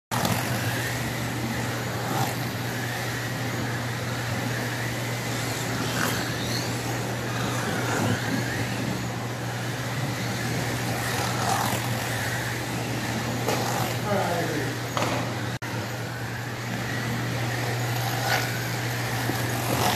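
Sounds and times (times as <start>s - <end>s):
small electric motors whining: 0.1s - 19.9s
steady low hum: 0.1s - 19.9s.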